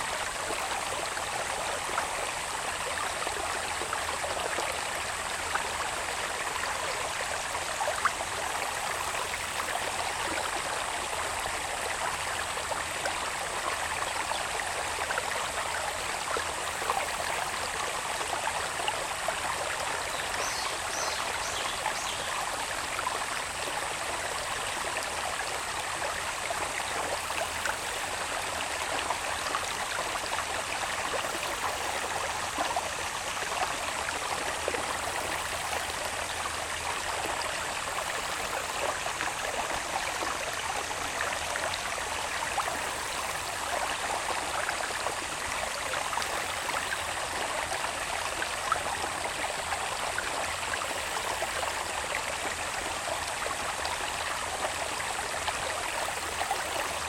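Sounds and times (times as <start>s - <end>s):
stream of water running: 0.0s - 57.0s.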